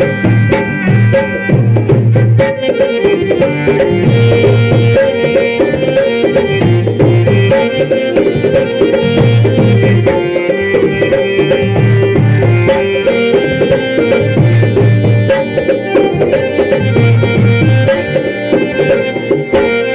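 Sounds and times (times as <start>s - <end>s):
folk music with fast drumming: 0.0s - 19.9s.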